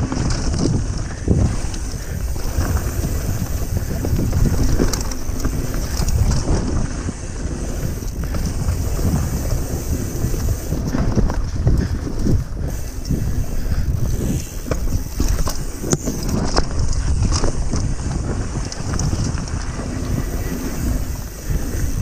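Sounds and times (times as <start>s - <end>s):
bike rattling over bumps: 0.0s - 22.0s
wind buffeting microphone: 0.0s - 22.0s.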